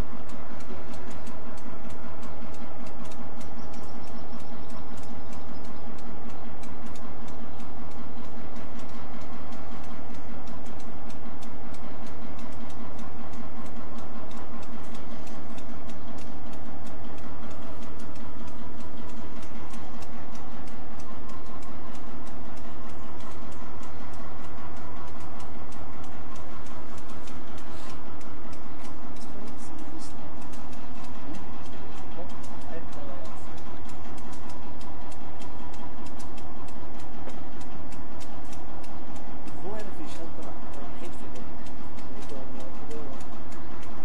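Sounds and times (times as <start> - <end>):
locomotive engine droning: 0.0 - 44.0
wheels clicking on rails: 0.0 - 44.0.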